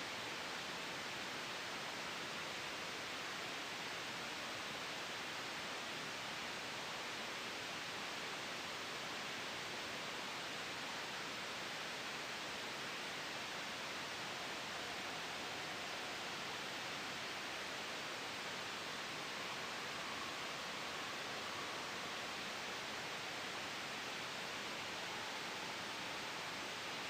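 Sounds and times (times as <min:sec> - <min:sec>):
white noise hiss: 0:00.0 - 0:27.0.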